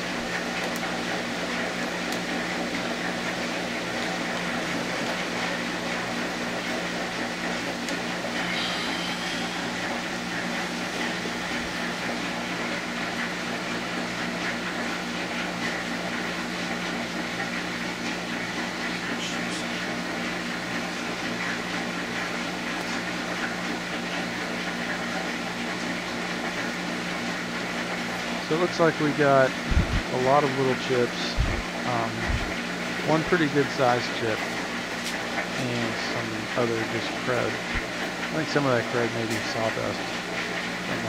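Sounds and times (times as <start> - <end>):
electric machine hum: 0.0 - 41.0.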